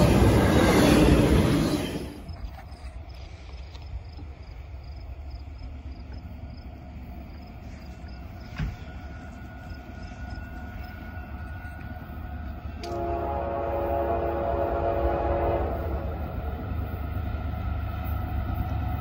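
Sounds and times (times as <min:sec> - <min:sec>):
distant freight train rumble: 0:00.0 - 0:19.0.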